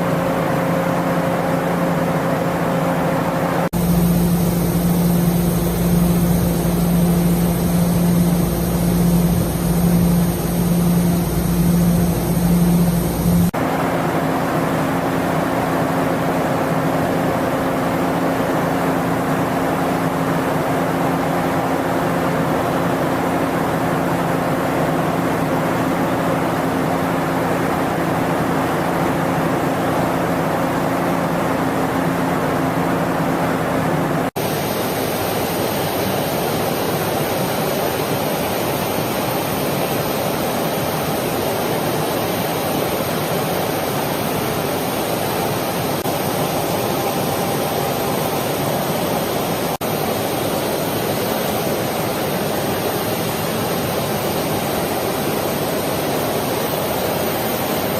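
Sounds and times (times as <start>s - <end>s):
rushing machine drone: 0.0s - 52.3s
machine drone with whining hum: 0.0s - 57.9s.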